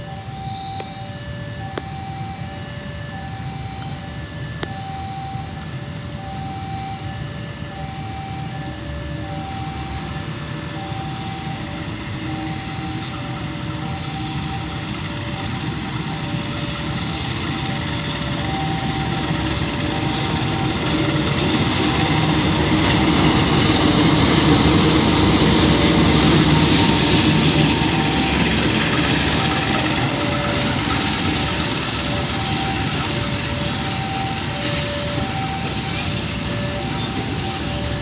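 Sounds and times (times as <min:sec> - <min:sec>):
level crossing alarm two-note tone: 0:00.0 - 0:05.6, 0:06.2 - 0:38.0
train passing: 0:00.0 - 0:38.0.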